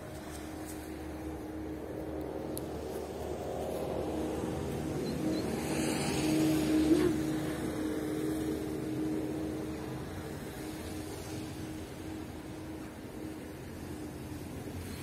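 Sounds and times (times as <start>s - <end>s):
steady low hum: 0.0s - 15.0s
vehicle passing by: 0.0s - 15.0s.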